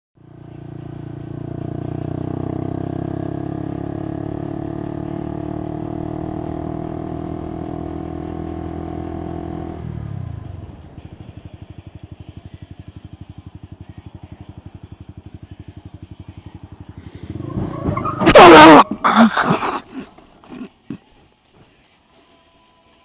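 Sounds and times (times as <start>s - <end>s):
motorcycle engine running: 0.2s - 19.0s.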